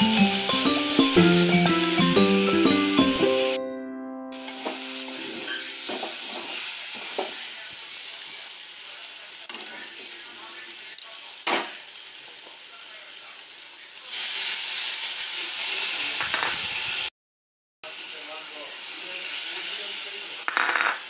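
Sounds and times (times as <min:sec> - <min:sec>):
food sizzling in a pan: 0:00.0 - 0:03.6, 0:04.4 - 0:17.1, 0:17.8 - 0:21.0.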